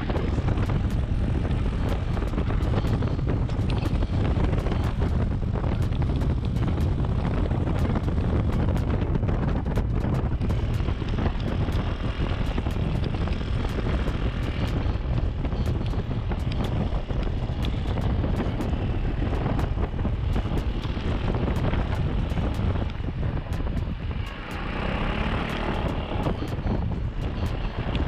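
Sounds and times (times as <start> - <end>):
motorcycle engine: 0.0 - 28.0
wind buffeting microphone: 0.0 - 28.0.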